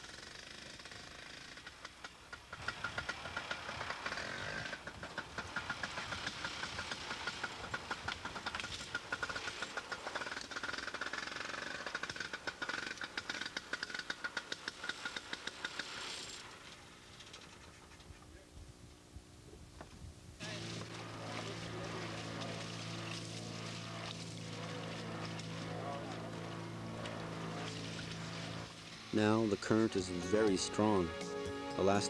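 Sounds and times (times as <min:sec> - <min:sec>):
snowmobile engine puttering: 0:01.5 - 0:16.0, 0:20.4 - 0:32.0.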